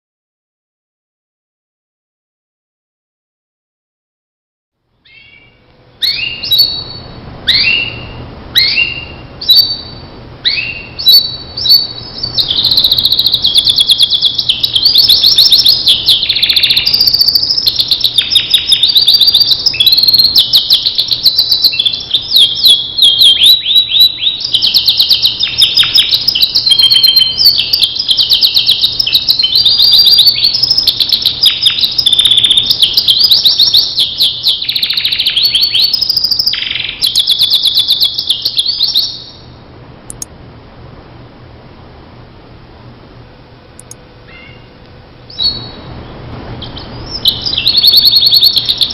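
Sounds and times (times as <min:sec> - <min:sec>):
canary singing trills: 0:05.0 - 0:40.3, 0:43.8 - 0:45.9, 0:46.6 - 0:48.9.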